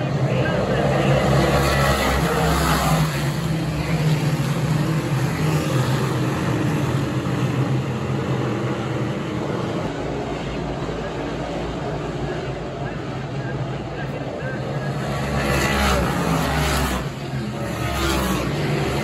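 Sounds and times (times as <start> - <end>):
race car engines running hard: 0.0 - 19.0.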